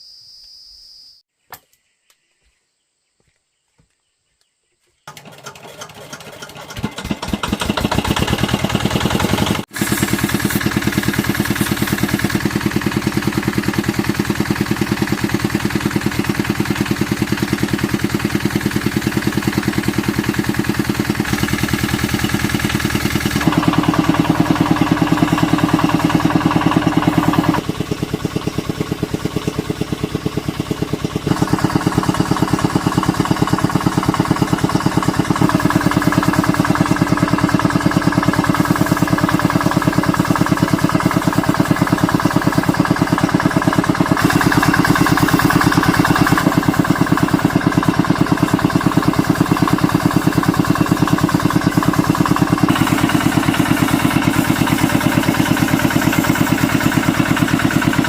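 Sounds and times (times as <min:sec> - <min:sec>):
small engine running: 0:05.1 - 0:58.0.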